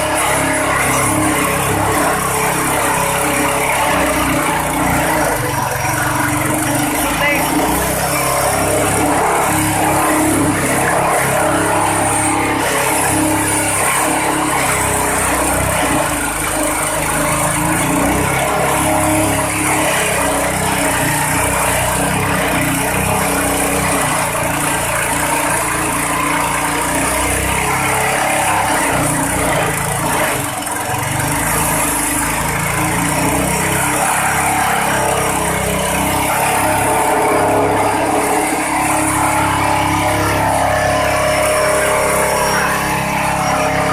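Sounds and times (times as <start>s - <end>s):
shredder machine running: 0.0s - 43.9s.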